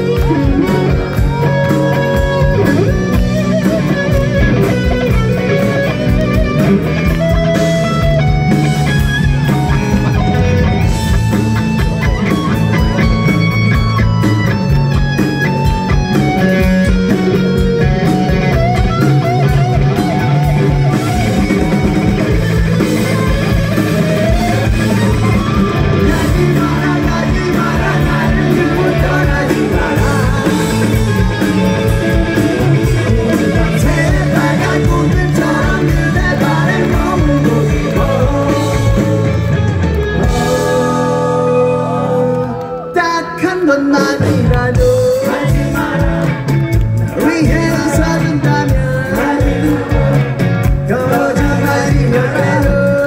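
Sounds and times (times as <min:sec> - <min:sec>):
steady drum beat: 0:00.0 - 0:41.1, 0:44.3 - 0:53.0
bass guitar: 0:00.0 - 0:53.0
electric guitar melody: 0:00.0 - 0:53.0.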